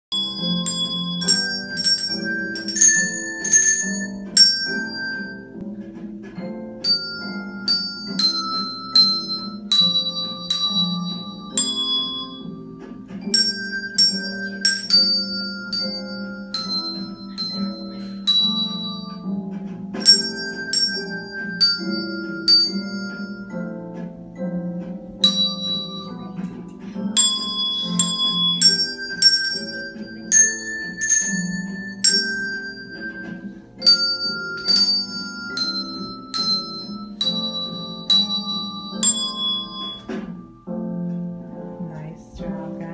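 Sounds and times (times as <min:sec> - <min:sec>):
hand bells melody: 0:00.1 - 0:42.9
low sustained bell notes: 0:00.1 - 0:42.9.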